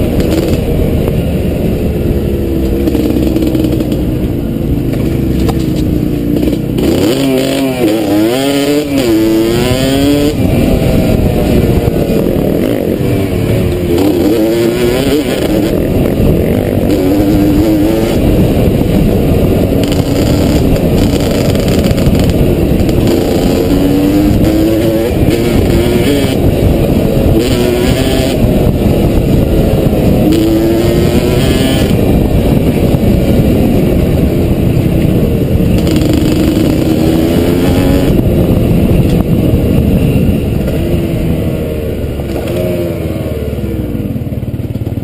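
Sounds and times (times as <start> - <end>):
dirt bike engine revving: 0.0 - 43.7.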